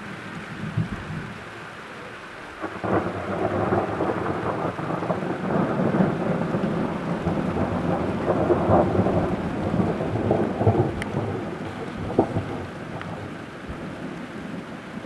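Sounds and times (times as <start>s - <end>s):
steady rain: 0.0s - 15.0s
thunder rumbling: 2.6s - 15.0s.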